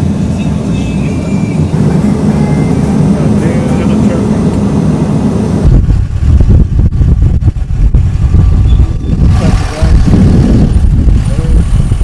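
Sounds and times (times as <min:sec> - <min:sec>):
highway traffic rumble: 0:00.0 - 0:12.0
wind buffeting microphone: 0:00.0 - 0:12.0.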